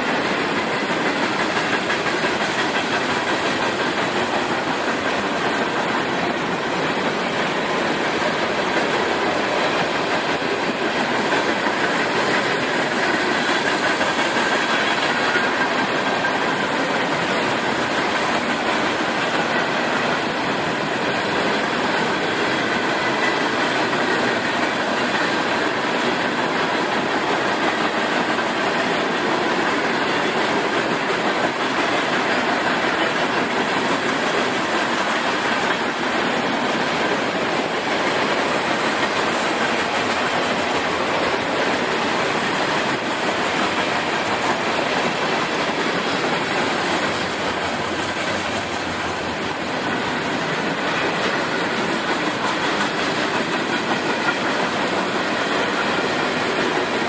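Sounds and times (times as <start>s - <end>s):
train cars rolling on track: 0.0s - 57.0s.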